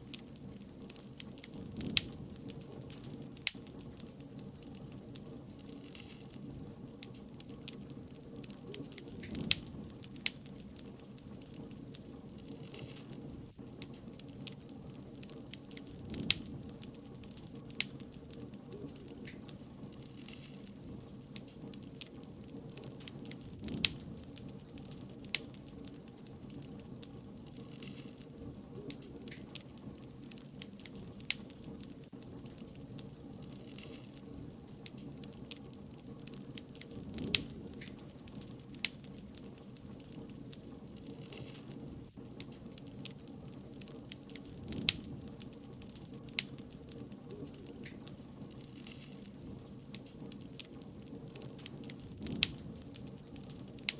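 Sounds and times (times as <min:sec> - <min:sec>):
bonfire crackling and popping: 0:00.0 - 0:53.9.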